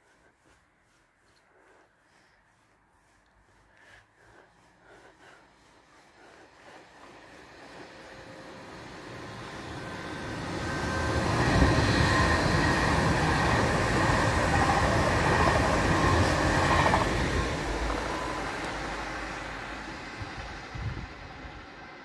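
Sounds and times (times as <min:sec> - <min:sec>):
train wheels rumbling on rails: 0:04.2 - 0:22.0.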